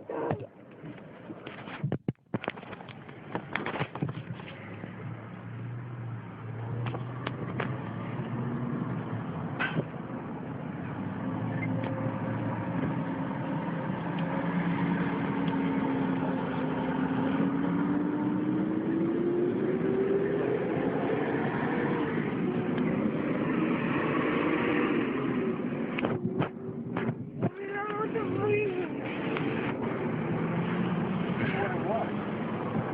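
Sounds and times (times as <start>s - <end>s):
road noise: 0.0s - 32.9s
vehicle engine: 2.4s - 32.9s.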